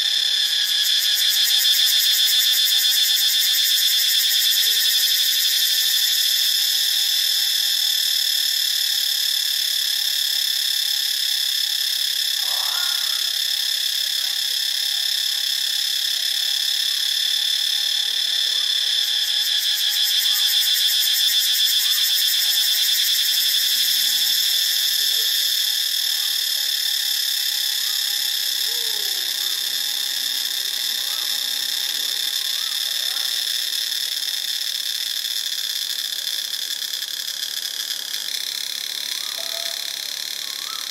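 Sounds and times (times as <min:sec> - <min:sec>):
cicada buzzing: 0:00.0 - 0:40.9.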